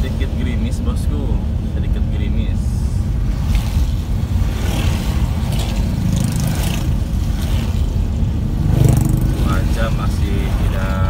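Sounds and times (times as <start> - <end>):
car interior drone: 0.0 - 11.0
vehicles passing on wet road: 0.0 - 11.0.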